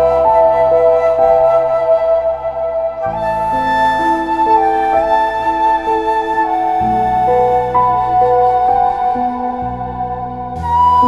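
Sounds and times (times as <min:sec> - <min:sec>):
calm background music: 0:00.0 - 0:11.0.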